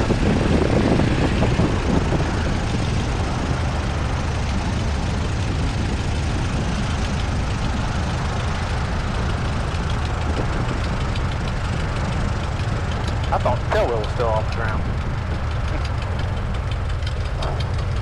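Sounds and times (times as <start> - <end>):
airplane engine droning: 0.0 - 18.0.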